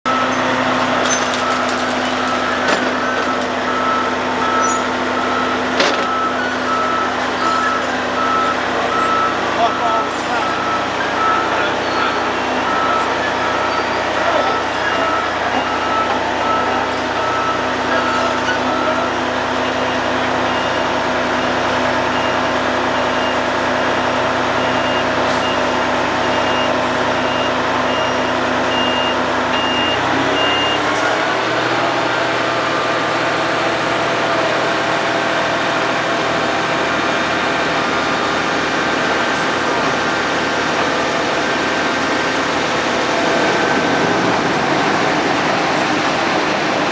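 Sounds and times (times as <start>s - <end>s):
reversing alarms beeping: 0.1s - 46.9s
road planing machine running: 0.1s - 46.9s.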